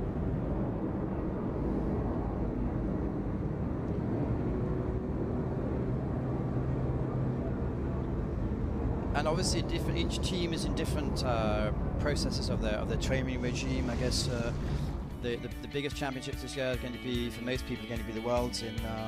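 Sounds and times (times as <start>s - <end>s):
low outdoor rumble: 0.0s - 17.9s.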